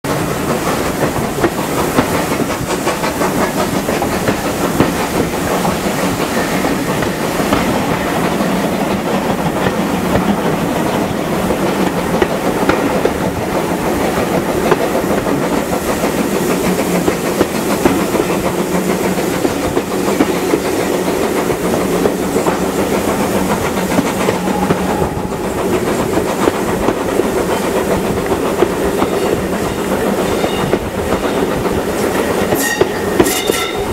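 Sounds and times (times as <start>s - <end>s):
steam locomotive hissing: 0.0s - 33.9s
train wheels clattering: 0.0s - 33.9s.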